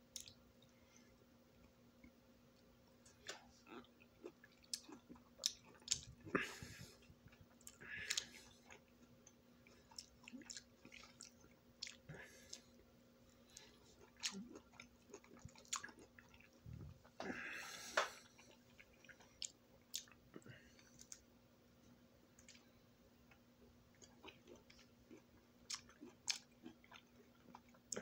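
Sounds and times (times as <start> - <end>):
faint steady hum: 0.0 - 28.0
person chewing orange slices: 2.0 - 12.8, 13.4 - 21.3, 22.4 - 28.0.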